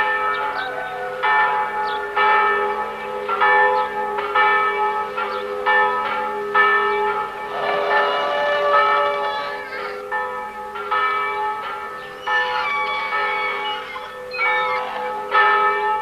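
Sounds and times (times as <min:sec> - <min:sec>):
bells ringing: 0:00.0 - 0:16.0.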